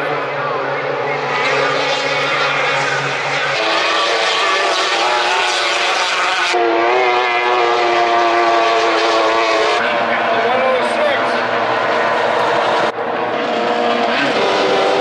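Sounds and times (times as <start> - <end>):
racing boat engines droning: 0.0 - 15.0.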